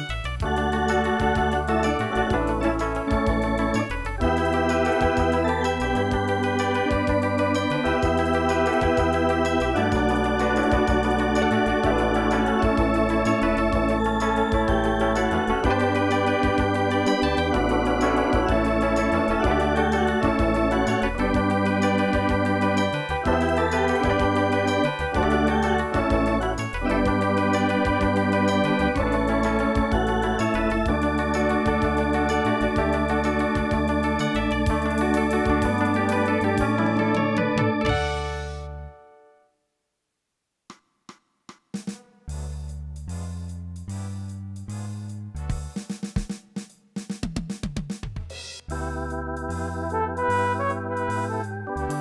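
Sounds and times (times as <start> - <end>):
organ chords over bass line: 0.4 - 39.0, 48.7 - 52.0.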